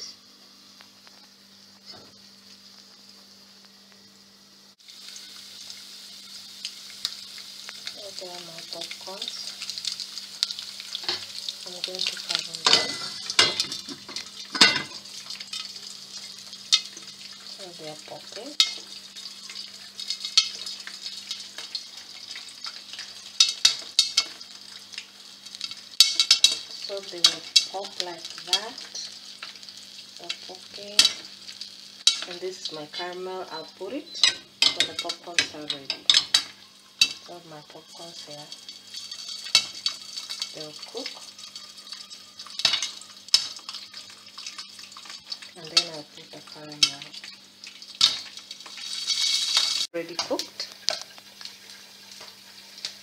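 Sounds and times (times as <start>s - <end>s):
oil sizzling in a pot: 0.0s - 53.0s
popcorn popping: 6.2s - 32.5s, 33.9s - 53.0s.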